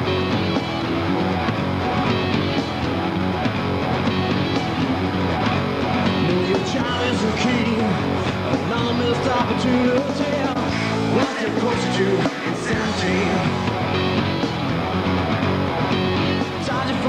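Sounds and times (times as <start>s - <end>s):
rock song with singing: 0.0s - 17.0s.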